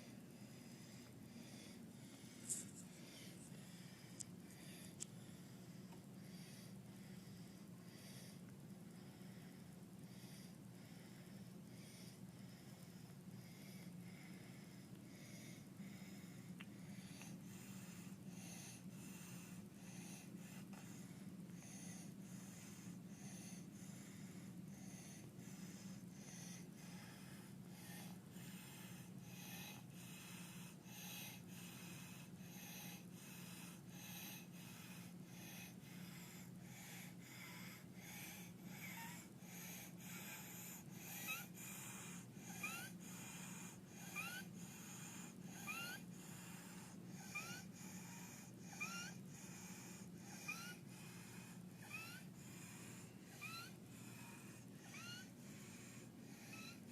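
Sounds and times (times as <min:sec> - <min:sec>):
infant noisy breathing: 0:00.0 - 0:56.9.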